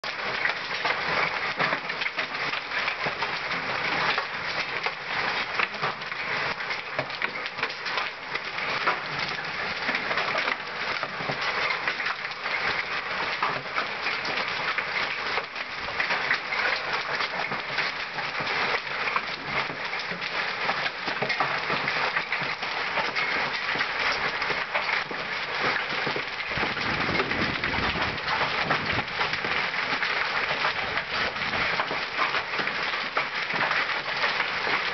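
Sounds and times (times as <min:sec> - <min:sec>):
hailstones and rain on paving: 0:00.0 - 0:34.9.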